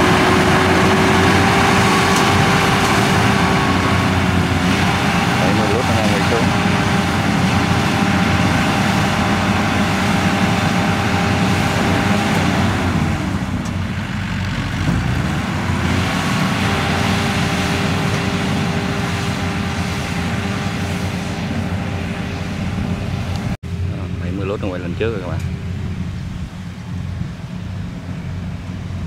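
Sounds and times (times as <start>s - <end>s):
harvester engines running under load: 0.0s - 29.0s.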